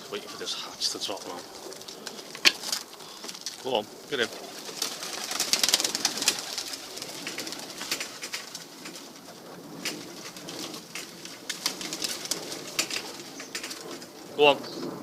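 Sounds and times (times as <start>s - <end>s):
pigeons cooing: 0.0s - 15.0s
sharp clicks and rustles: 1.0s - 14.3s.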